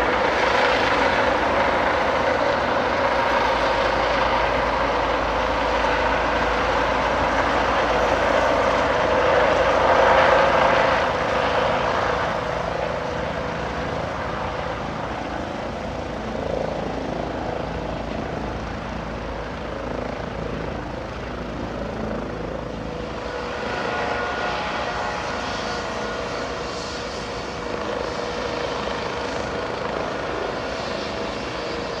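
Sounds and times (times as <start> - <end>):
helicopter turbine and rotor noise: 0.0 - 32.0.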